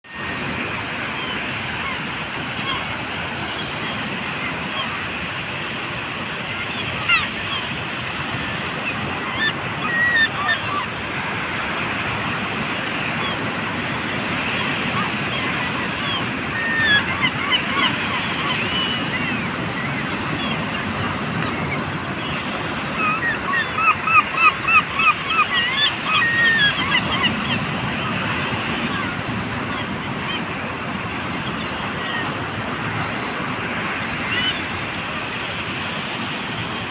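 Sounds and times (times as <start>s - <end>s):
seagulls calling: 0.3s - 36.9s.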